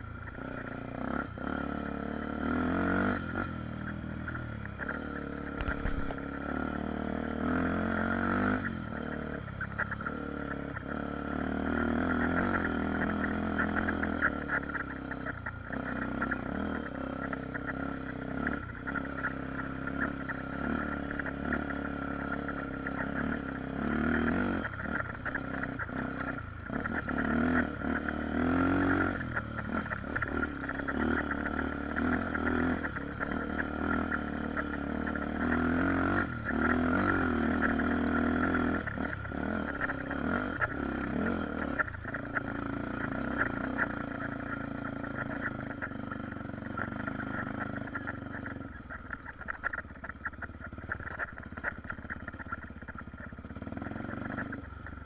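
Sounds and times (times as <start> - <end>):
knocks and rattles from bike: 0.0 - 55.0
motorbike engine on dirt trail: 0.0 - 55.0.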